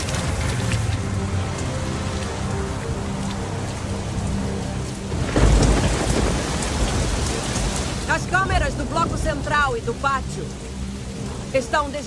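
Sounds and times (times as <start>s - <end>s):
heavy rain on pavement: 0.0s - 12.0s
low musical drone: 0.0s - 12.0s.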